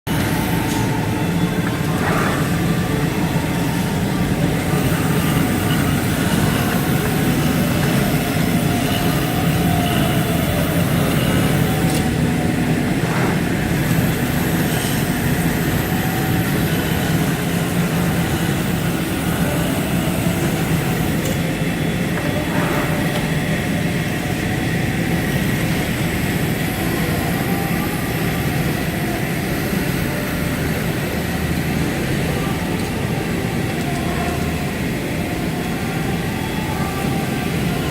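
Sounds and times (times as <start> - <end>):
fabric cutting machine humming: 0.1 - 37.9.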